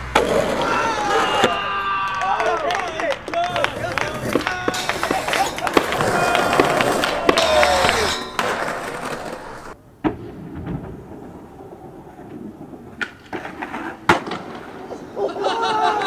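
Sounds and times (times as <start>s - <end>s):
skateboard clacks: 0.0s - 15.1s
skateboard wheels rolling: 0.0s - 16.0s.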